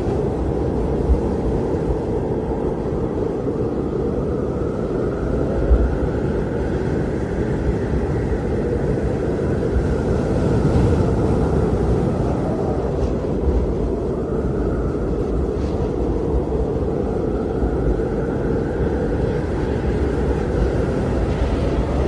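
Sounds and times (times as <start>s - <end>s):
blizzard wind rumbling: 0.0s - 22.0s.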